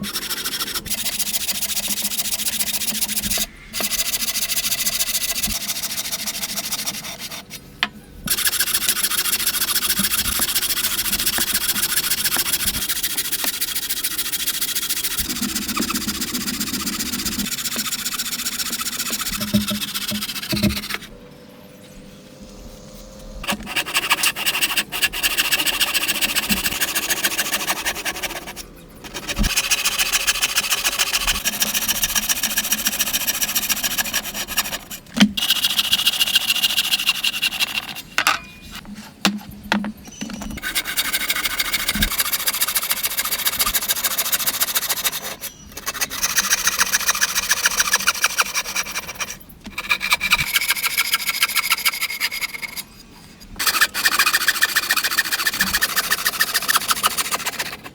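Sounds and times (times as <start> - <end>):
wood being rasped: 0.0 - 7.6, 8.3 - 21.1, 23.4 - 38.2, 40.2 - 52.9, 53.5 - 57.9.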